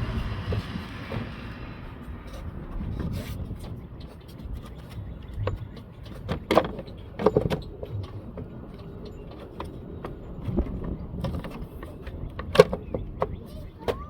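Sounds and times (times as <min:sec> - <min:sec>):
hard plastic knocks and rattles: 0:00.0 - 0:14.0.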